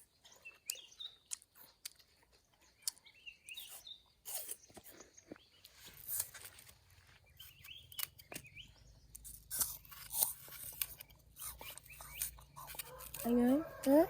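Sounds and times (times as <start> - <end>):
faint bird chirps: 0.0 - 1.8, 2.4 - 6.2, 6.8 - 9.9, 10.9 - 13.8
person chewing crunchy food: 0.0 - 14.0.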